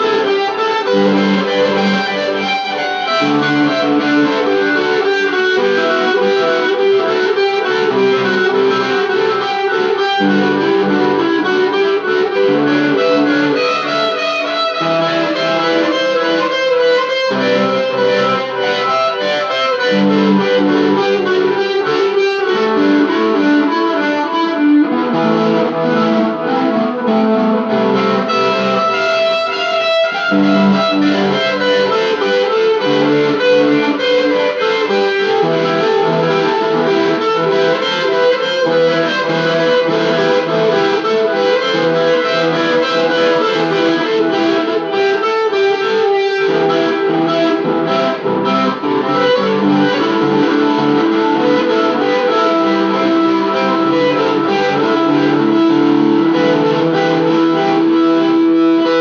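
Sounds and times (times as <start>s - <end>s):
instrumental rock music: 0.0s - 59.0s.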